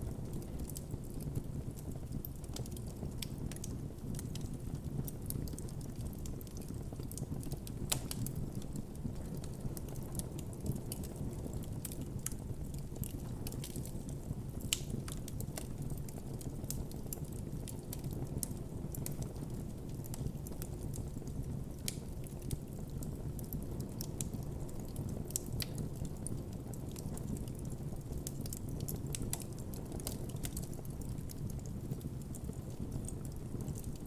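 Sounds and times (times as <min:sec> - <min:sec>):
campfire crackling and popping: 0:00.0 - 0:34.0.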